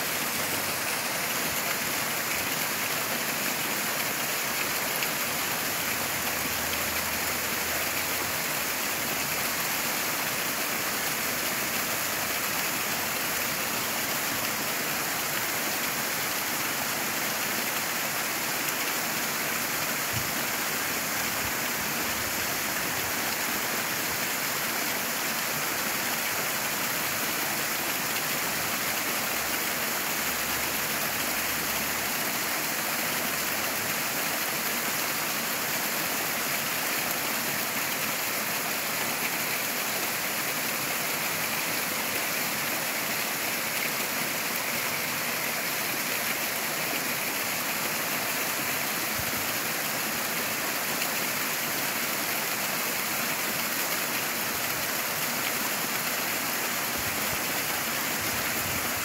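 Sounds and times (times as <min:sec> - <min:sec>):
waterfall rushing onto stones: 0:00.0 - 0:59.0.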